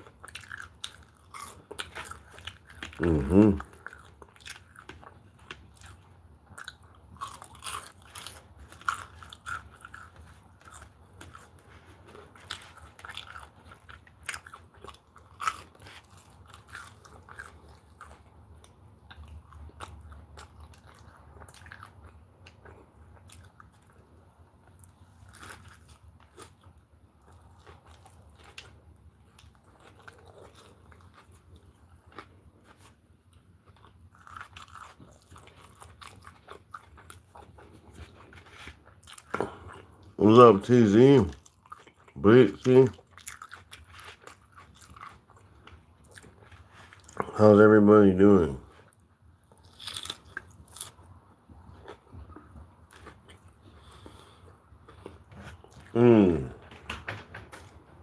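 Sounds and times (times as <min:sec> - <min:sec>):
person chewing and crunching: 0:00.0 - 0:56.8.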